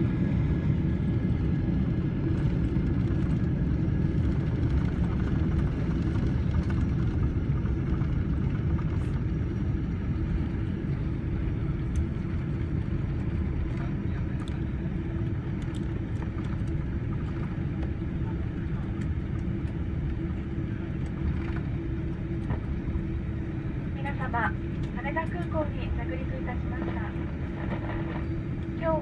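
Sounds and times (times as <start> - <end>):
airliner engines and wheels roaring: 0.0 - 29.0.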